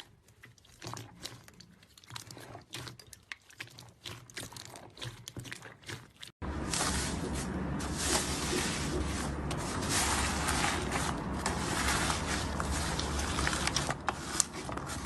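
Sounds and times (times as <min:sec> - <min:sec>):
slime squishing: 0:00.0 - 0:15.0.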